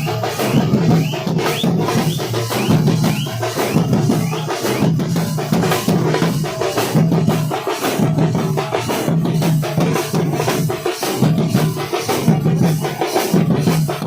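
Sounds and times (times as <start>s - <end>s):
drum troupe drumming: 0.0s - 14.0s.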